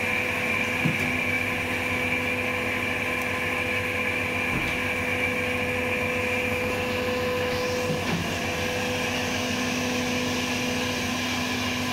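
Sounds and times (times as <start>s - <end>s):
electric machine hum: 0.0s - 11.9s.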